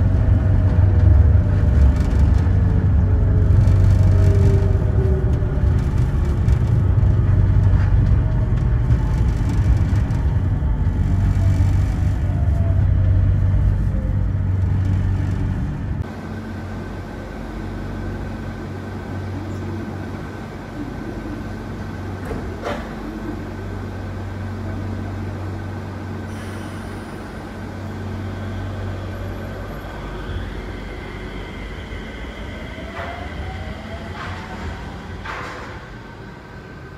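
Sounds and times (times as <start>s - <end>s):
train rumbling: 0.0s - 36.9s
train whine: 0.0s - 36.9s.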